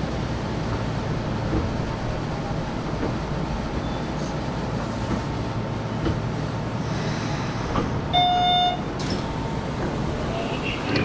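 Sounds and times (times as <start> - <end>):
train rumbling through station: 0.0 - 11.0.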